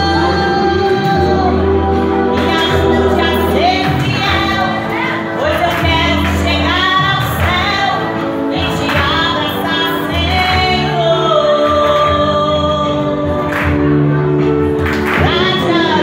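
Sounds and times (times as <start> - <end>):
woman singing into microphone: 0.0 - 16.0.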